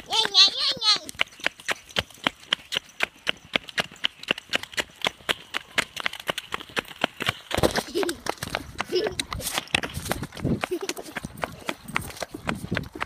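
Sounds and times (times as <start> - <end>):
running footsteps on pavement: 0.0 - 13.0.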